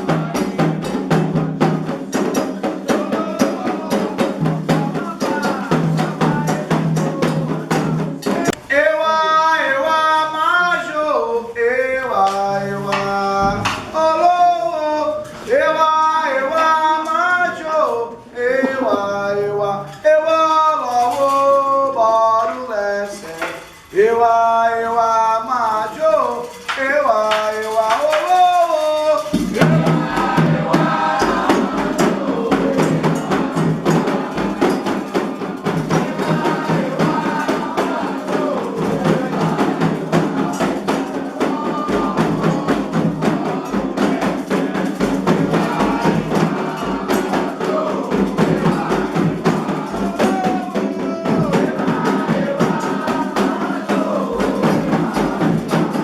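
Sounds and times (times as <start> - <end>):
chorus of voices singing: 0.0 - 23.4, 24.0 - 56.0
drums and percussion: 0.0 - 56.0
lone voice singing: 0.0 - 56.0.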